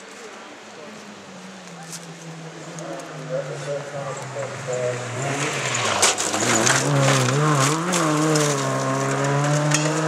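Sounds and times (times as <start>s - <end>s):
gravel crunching under tyres: 0.0s - 10.0s
rally car engine revving: 1.1s - 10.0s.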